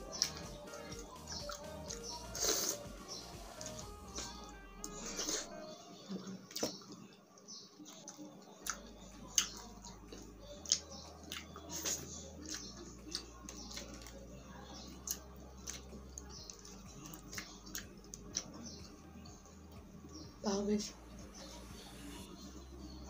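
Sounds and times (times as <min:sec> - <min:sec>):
close-up chewing: 0:00.0 - 0:20.2.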